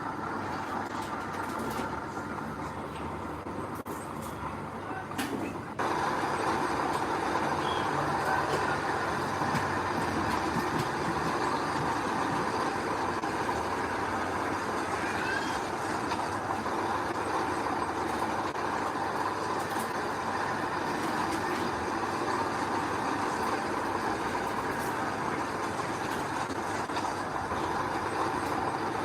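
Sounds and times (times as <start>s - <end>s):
heavy earthmoving machinery running: 0.0s - 29.0s.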